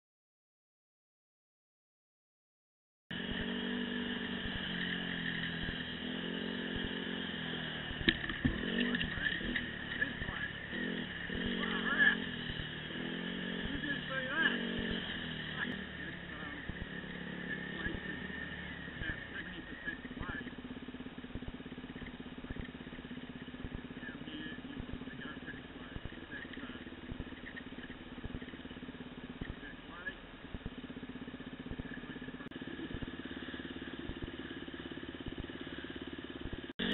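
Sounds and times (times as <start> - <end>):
dirt bike engine running: 3.1 - 36.9.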